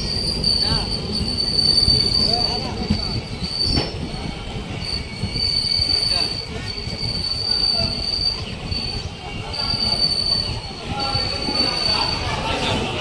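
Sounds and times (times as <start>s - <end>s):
rumble of rolling coaches: 0.0s - 13.0s
train wheels squealing: 0.0s - 13.0s.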